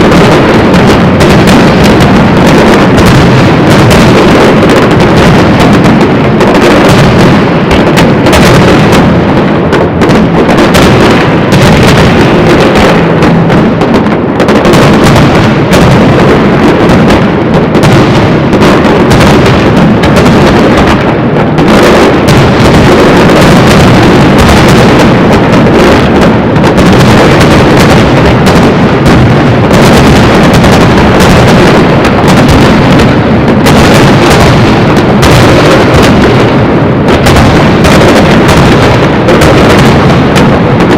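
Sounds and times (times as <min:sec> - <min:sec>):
firework shells bursting: 0:00.0 - 0:40.9.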